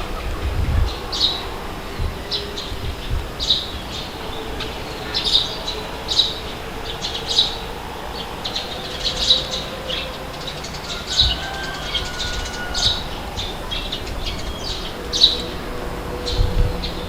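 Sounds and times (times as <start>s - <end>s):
birds calling harshly: 0.0s - 17.0s
low rumble of wind: 0.0s - 17.0s.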